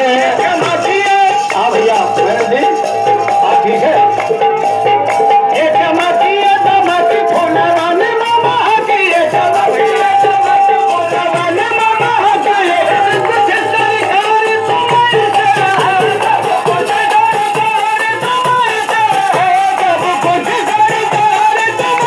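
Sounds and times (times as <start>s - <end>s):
harmonium playing: 0.0s - 22.0s
percussion beat: 0.0s - 22.0s
person singing: 0.0s - 22.0s.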